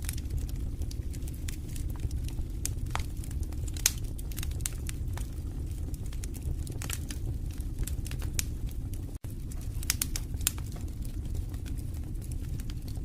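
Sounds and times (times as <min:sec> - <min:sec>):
low rumble of flame: 0:00.0 - 0:13.0
wood fire crackling and popping: 0:00.0 - 0:13.0.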